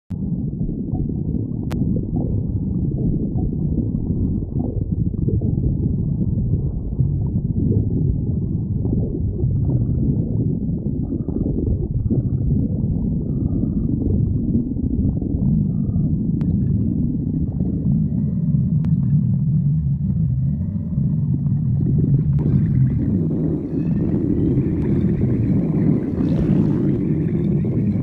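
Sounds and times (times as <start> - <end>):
stomach growling: 0.1 - 28.0.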